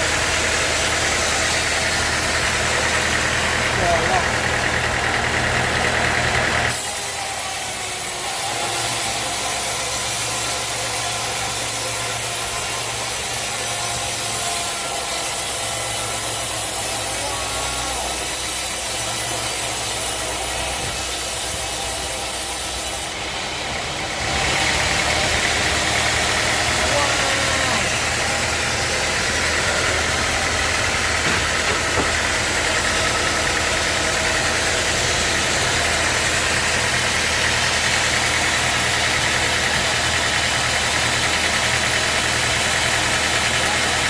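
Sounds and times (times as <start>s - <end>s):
sawmill engine idling: 0.0s - 44.0s.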